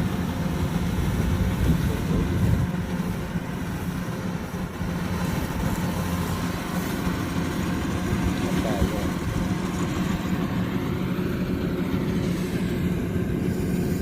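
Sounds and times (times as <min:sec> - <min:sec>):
combine harvester engine droning: 0:00.0 - 0:14.0.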